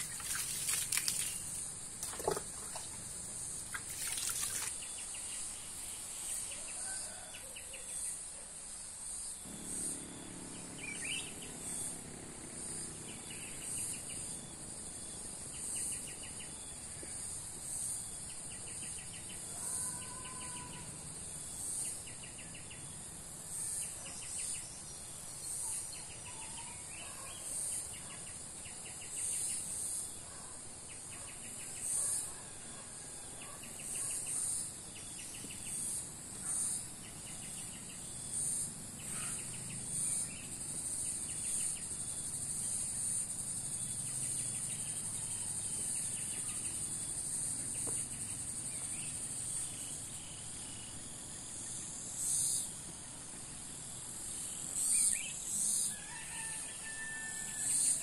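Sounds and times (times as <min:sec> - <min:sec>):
insects high drone: 0:00.0 - 0:31.1, 0:31.7 - 0:58.0
cricket trills: 0:00.0 - 0:58.0.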